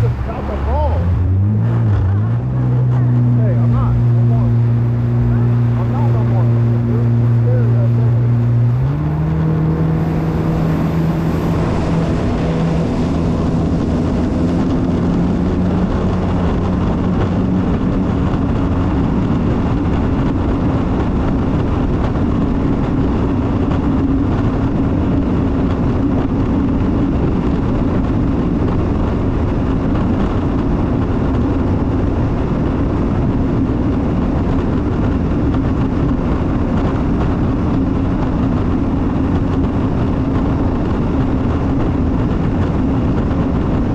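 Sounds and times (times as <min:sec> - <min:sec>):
jet ski engine running: 0:00.0 - 0:43.9
rushing water noise: 0:00.0 - 0:43.9.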